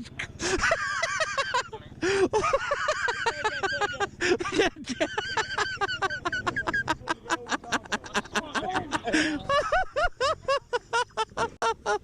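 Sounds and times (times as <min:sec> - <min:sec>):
low engine hum: 0:00.0 - 0:12.0
people laughing hard: 0:00.3 - 0:12.0.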